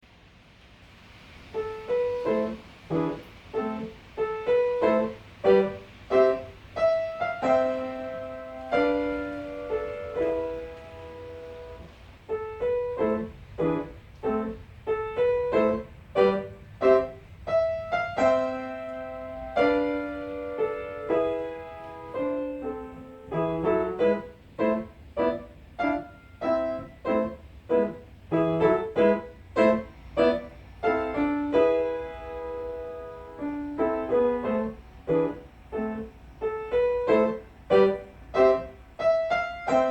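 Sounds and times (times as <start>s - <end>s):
solo piano melody: 0.0s - 39.9s.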